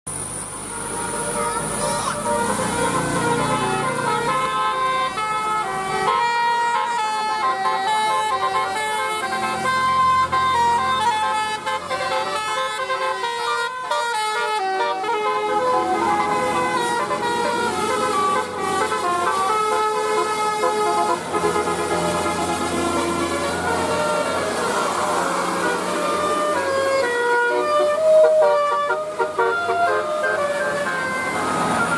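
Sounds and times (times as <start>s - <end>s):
musical bus air horns: 0.2s - 31.9s.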